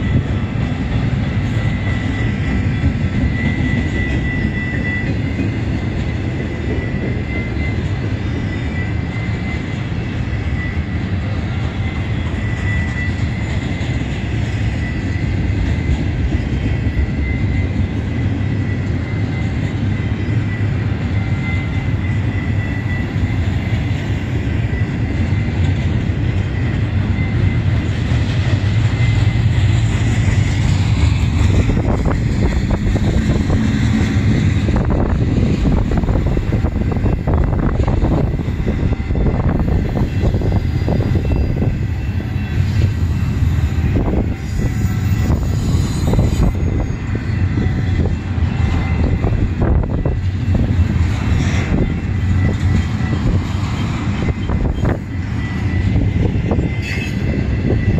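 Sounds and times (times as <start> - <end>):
high wheel squeal: 0.0 - 57.9
steel wheels rumbling on rail: 0.0 - 57.9.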